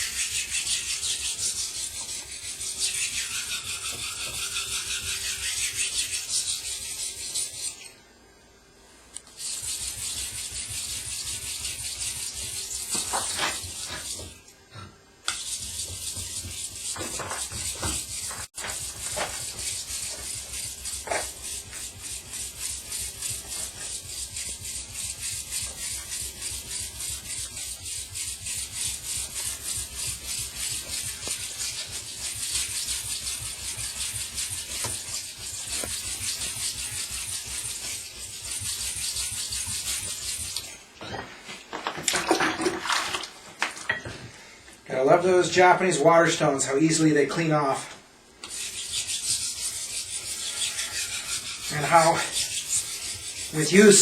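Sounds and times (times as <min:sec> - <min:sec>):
knife scraping on whetstone: 0:00.0 - 0:07.9, 0:09.3 - 0:14.4, 0:15.3 - 0:40.8, 0:48.4 - 0:54.0.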